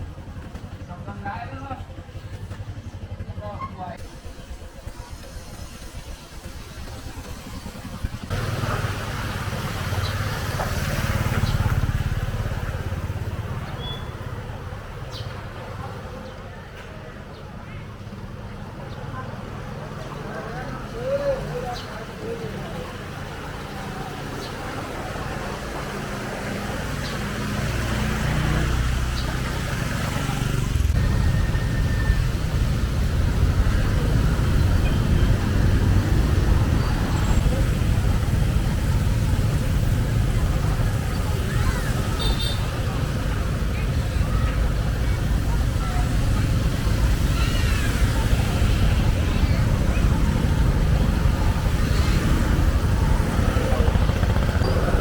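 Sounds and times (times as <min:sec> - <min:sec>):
vehicle engine running: 0:00.0 - 0:15.0, 0:22.8 - 0:55.0
street noise hiss: 0:04.0 - 0:55.0.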